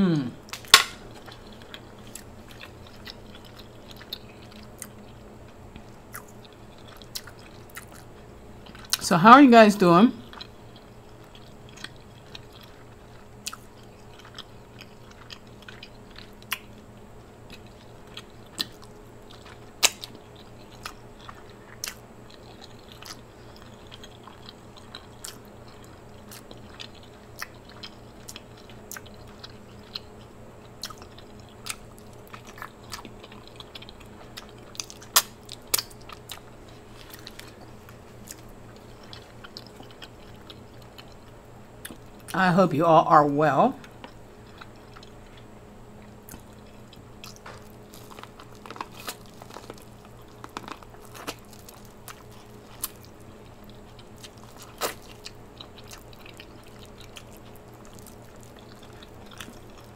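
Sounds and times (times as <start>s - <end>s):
faint steady hum: 0.0s - 59.9s
chewing and eating: 0.1s - 9.0s, 10.2s - 59.9s.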